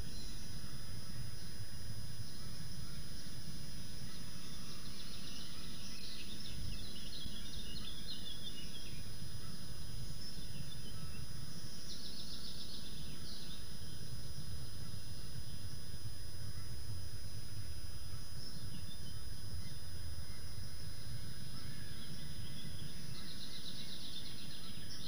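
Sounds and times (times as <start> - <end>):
small birds singing: 0.0 - 25.0.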